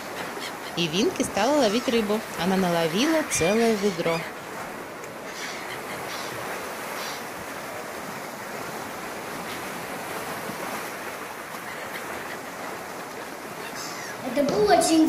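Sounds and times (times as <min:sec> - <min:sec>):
sea surf breaking on shore: 0:00.0 - 0:15.0.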